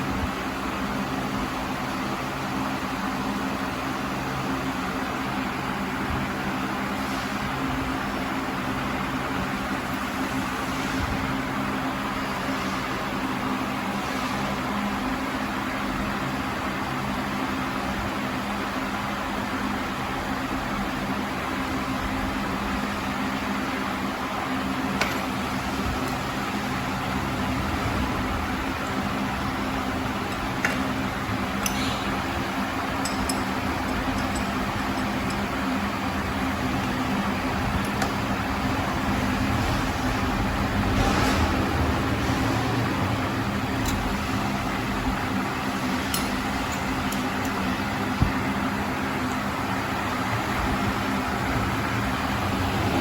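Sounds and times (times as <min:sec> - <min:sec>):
machine hum with hiss: 0:00.0 - 0:53.0
noisy background: 0:00.0 - 0:53.0.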